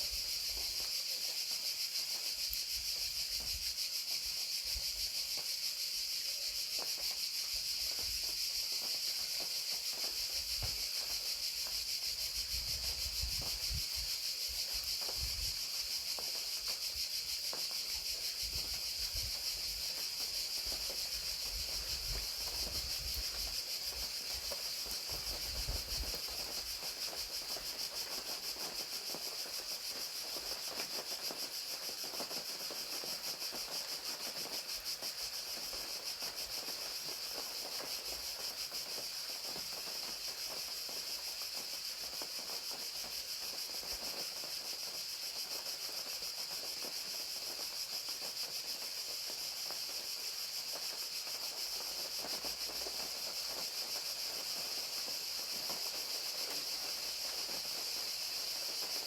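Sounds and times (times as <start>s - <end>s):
crickets trilling: 0.0s - 59.0s
rain hiss: 0.0s - 59.0s.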